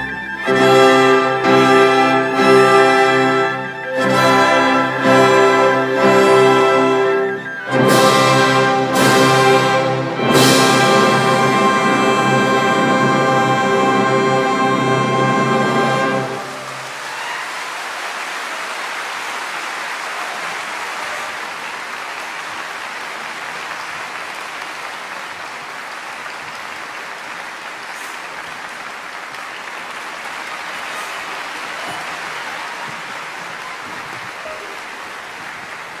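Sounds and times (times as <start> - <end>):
audience applauding: 0.0 - 36.0.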